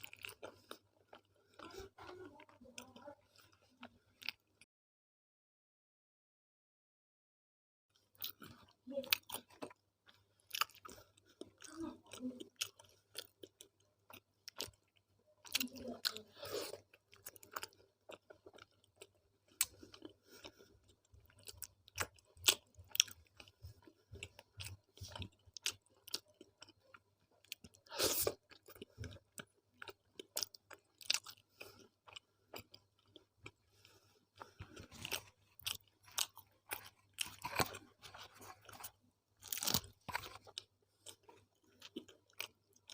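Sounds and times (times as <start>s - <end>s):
mouth chewing food: 0.0s - 4.6s, 8.0s - 42.9s.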